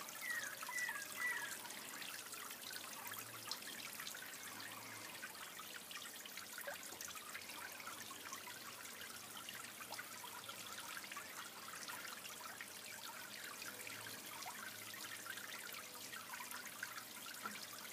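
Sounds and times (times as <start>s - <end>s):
water trickling into pond: 0.0s - 17.9s.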